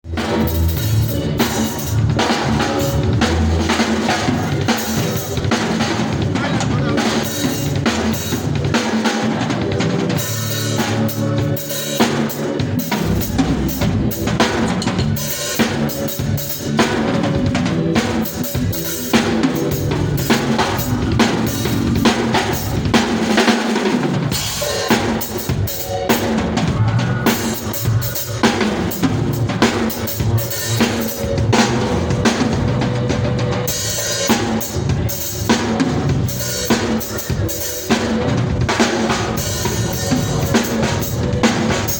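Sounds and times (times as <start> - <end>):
drum kit playing: 0.0 - 41.9.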